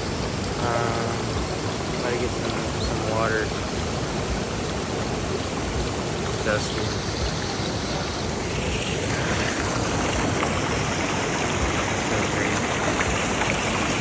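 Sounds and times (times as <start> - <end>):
creek water falling over rocks: 0.0 - 14.0.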